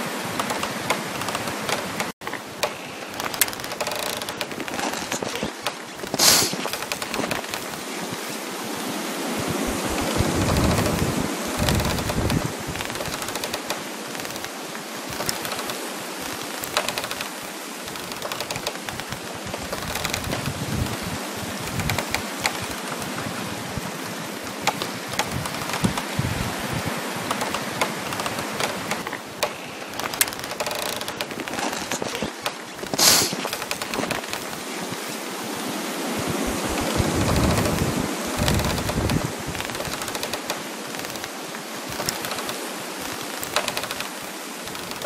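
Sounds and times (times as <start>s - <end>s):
frost crackling: 0.0s - 45.0s
wind blowing: 0.0s - 45.0s.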